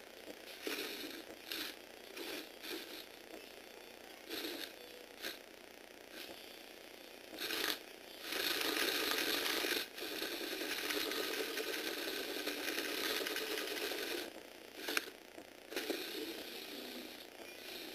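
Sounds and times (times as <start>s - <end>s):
small electric motor and gears whirring: 0.0s - 17.9s.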